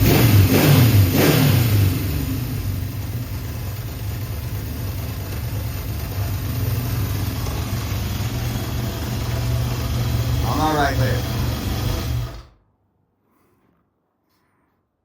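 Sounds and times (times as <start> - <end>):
motorcycle engine revving and idling: 0.0 - 12.6.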